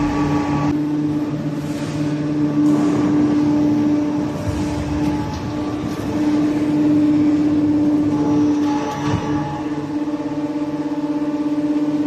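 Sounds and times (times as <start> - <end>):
hydraulic baler humming: 0.0 - 12.0.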